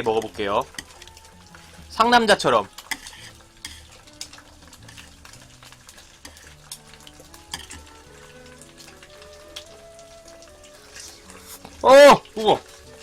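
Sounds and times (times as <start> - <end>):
egg sizzling in oil: 0.0 - 13.0
soft background music: 0.0 - 13.0.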